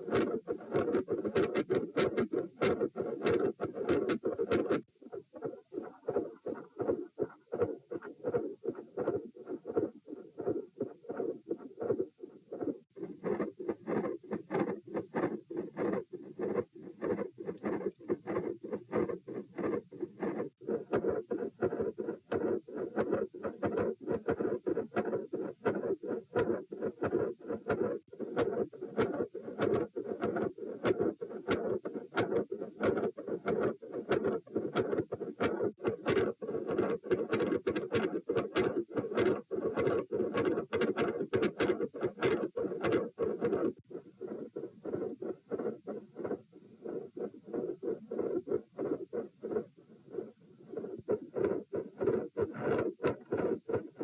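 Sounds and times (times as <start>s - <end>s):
heartbeat thuds and clicks: 5.4s - 54.0s.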